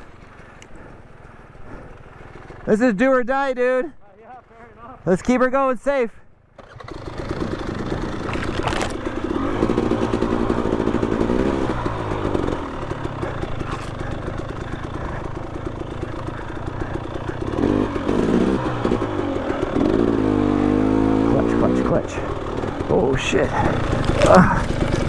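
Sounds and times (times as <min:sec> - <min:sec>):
dirt bike engines revving: 0:00.0 - 0:05.6, 0:06.6 - 0:25.0.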